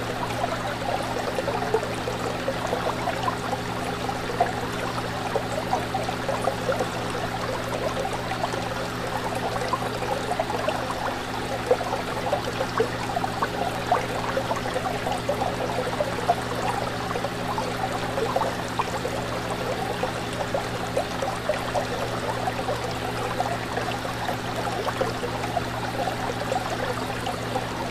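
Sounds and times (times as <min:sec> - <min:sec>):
fish tank water bubbling: 0:00.0 - 0:27.9.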